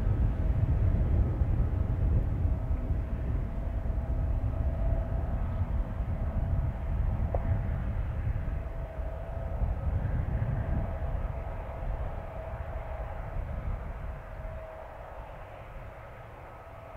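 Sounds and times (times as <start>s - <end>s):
faint steady whine: 0.0s - 16.9s
low rumble: 0.0s - 16.9s.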